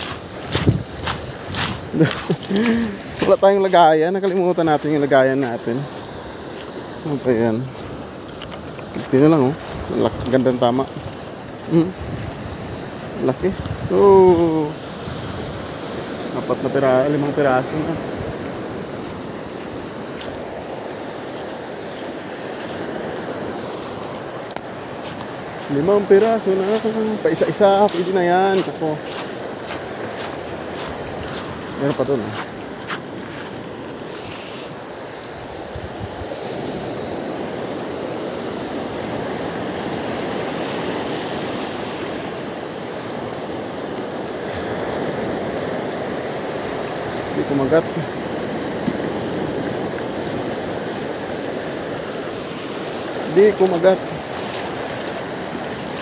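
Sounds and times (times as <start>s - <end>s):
surf washing over pebbles: 0.0s - 56.0s.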